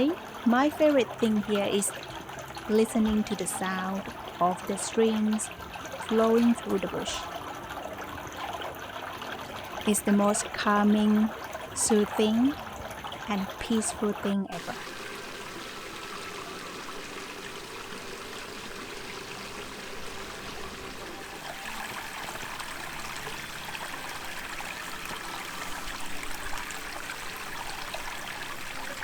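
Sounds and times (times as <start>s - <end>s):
stream flowing and trickling: 0.0s - 29.0s.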